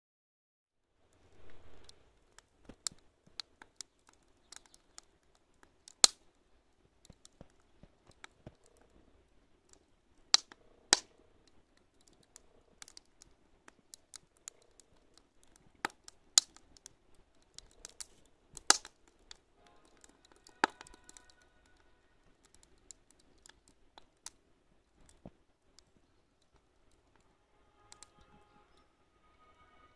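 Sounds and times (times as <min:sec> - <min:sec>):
firewood crackling and popping: 0:01.1 - 0:28.8.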